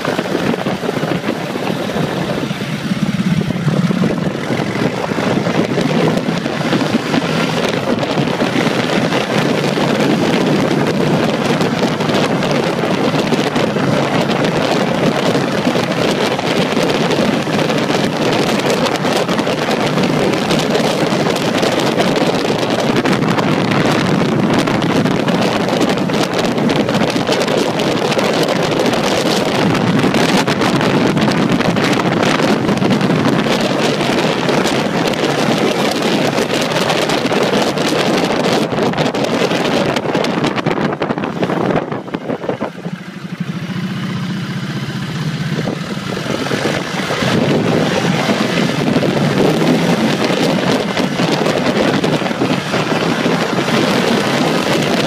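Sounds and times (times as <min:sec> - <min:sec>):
motorcycle engine: 0:00.0 - 0:55.0
wind rushing over microphone: 0:00.0 - 0:55.0.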